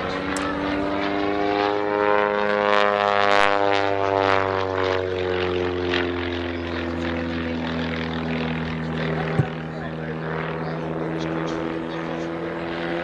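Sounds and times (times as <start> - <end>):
propeller plane engine buzzing: 0.0 - 13.0.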